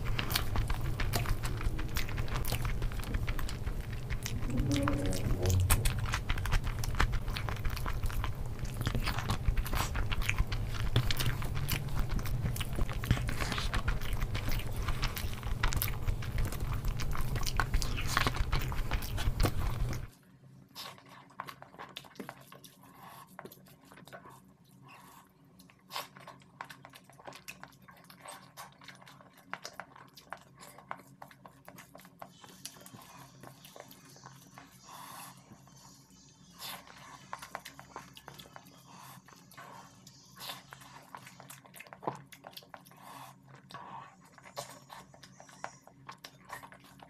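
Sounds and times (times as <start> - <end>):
wet chewing and mouth sounds: 0.0 - 47.0.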